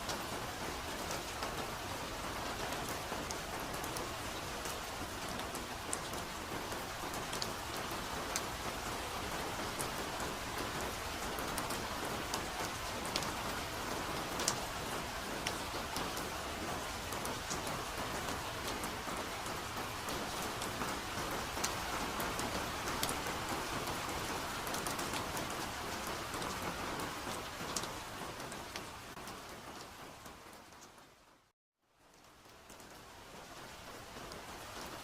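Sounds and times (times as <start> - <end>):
raindrops pattering: 0.0 - 31.2.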